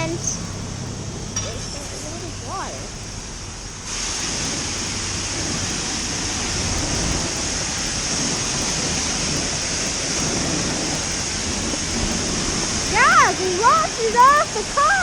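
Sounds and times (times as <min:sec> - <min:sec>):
pressure washer spraying water: 0:00.0 - 0:15.0.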